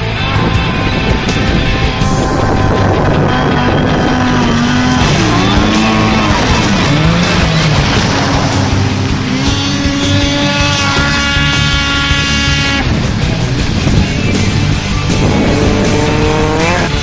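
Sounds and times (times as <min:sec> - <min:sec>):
snowmobile engine revving: 0:00.1 - 0:17.0.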